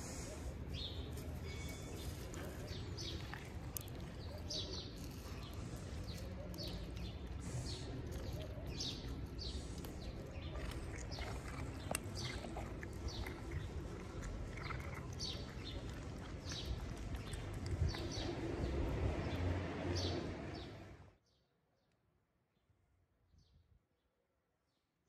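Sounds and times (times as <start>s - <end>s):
small birds chirping: 0.0s - 21.4s.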